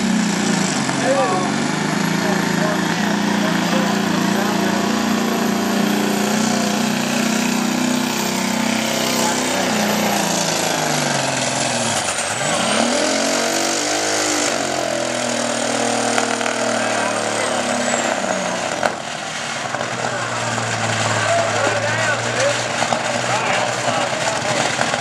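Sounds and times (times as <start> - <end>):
diesel truck engine at full throttle: 0.0 - 25.0.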